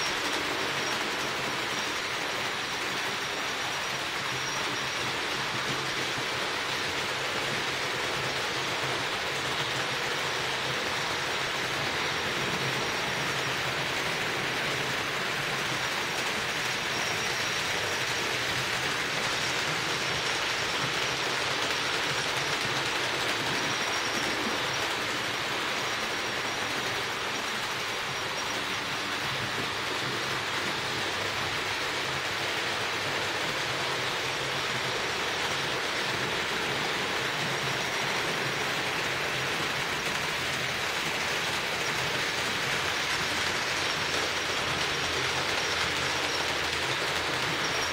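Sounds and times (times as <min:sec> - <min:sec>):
faint high whine: 0:00.0 - 0:47.9
metal wheels rolling on track: 0:00.0 - 0:47.9
model train motors whirring: 0:00.0 - 0:47.9.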